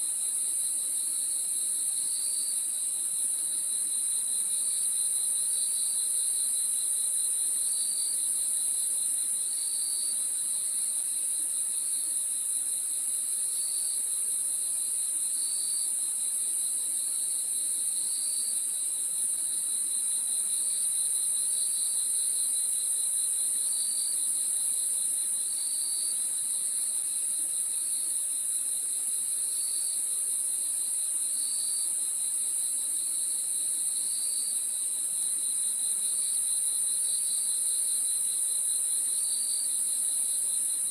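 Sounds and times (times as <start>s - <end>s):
crickets trilling: 0.0s - 40.9s
low pulsing cricket chirp: 0.0s - 40.9s.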